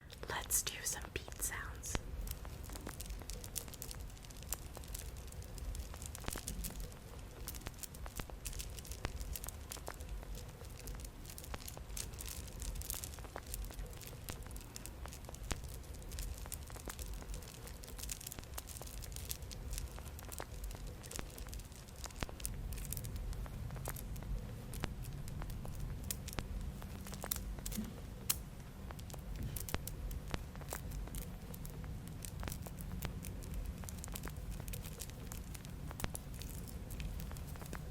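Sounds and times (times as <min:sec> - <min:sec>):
low background rumble: 0:00.0 - 0:37.9
beads clicking and rattling: 0:01.5 - 0:37.9.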